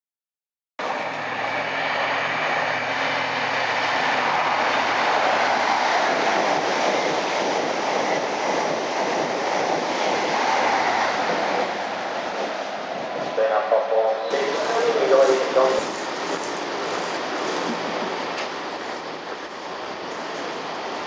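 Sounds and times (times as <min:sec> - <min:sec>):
train passing at speed: 0:00.8 - 0:21.0.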